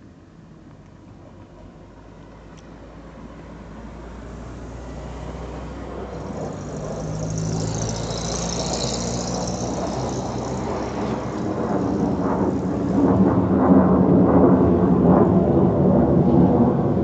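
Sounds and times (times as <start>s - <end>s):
jet fighter engine roar: 3.3s - 17.0s.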